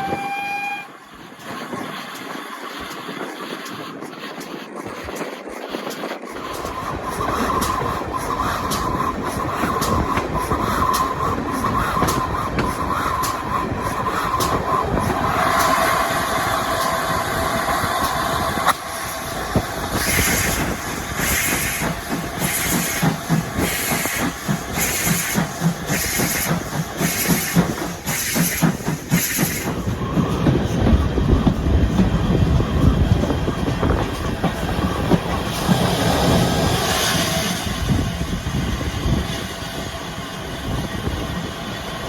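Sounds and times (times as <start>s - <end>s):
steam locomotive exhaust chuffs: 0.0s - 42.0s
train rumbling on rails: 0.0s - 42.0s.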